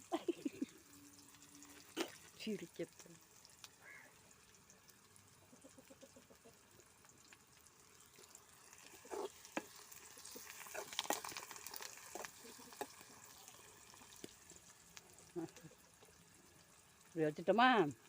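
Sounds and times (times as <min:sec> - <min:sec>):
onions frying in oil: 0:00.0 - 0:18.0.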